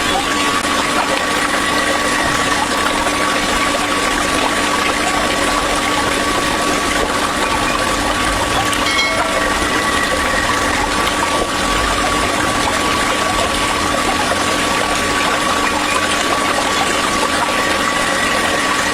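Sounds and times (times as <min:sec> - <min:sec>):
electric water pump whining: 0:00.0 - 0:18.9
water rushing and splashing: 0:00.0 - 0:18.9.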